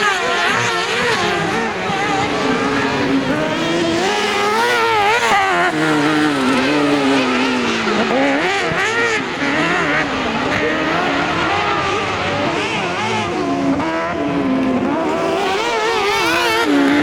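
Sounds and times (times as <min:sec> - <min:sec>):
racing buggy engines revving: 0:00.0 - 0:17.0.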